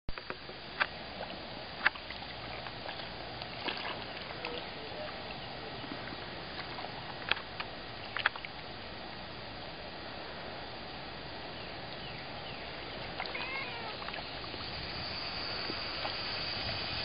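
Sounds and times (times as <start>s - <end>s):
steady hiss: 0.2s - 17.0s.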